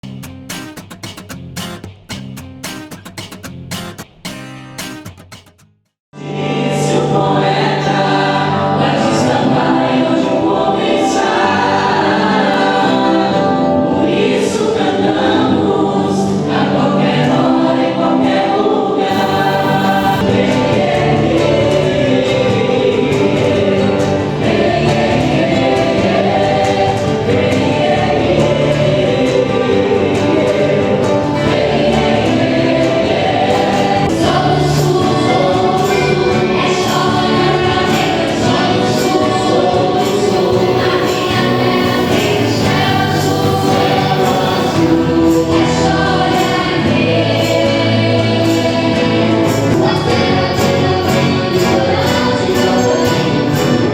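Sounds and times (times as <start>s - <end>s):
instrumental accompaniment: 0.0s - 14.4s, 16.5s - 53.9s
choir singing: 6.2s - 53.9s.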